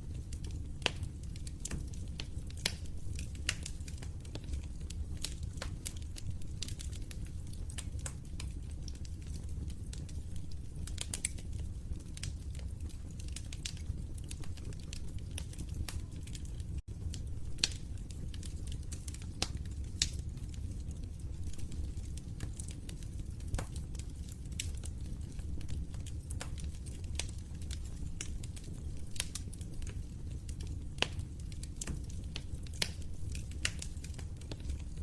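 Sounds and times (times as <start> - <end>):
fireplace fire crackling: 0.0 - 35.0.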